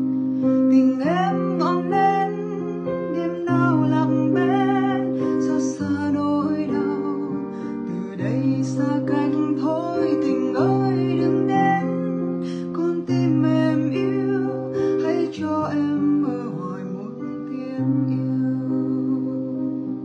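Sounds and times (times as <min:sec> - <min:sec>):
woman singing: 0:00.7 - 0:19.9.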